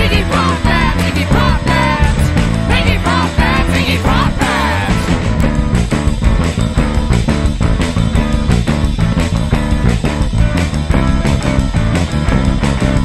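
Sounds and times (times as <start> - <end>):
bass guitar: 0.0 - 13.0
drums: 0.0 - 13.0
electric guitar: 0.0 - 13.0.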